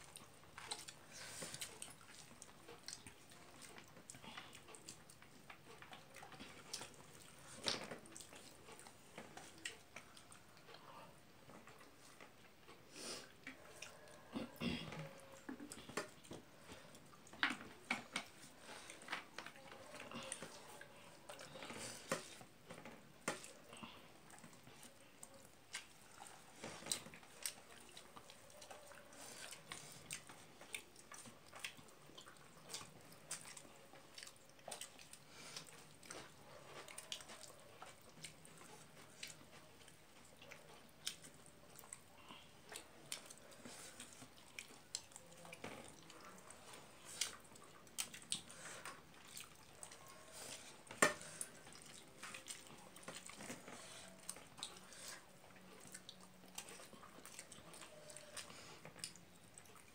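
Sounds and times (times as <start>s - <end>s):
chewing: 0.0s - 59.9s
faint clicks and smacks: 0.0s - 59.9s.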